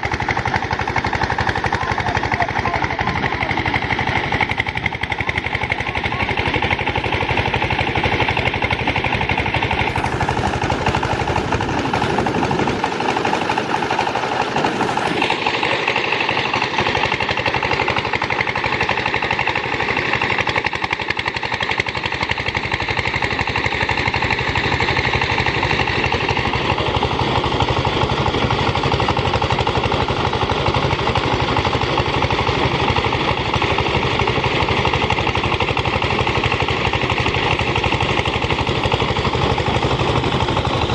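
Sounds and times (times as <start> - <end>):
threshing machine engine chugging: 0.0 - 40.9.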